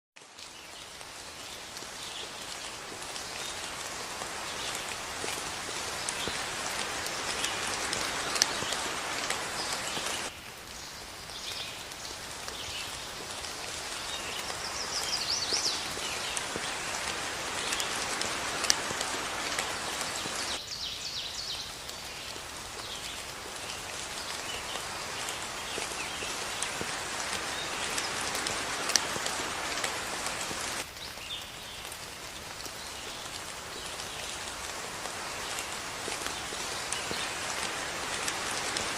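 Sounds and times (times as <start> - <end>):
steady rain falling: 0.2 - 38.9.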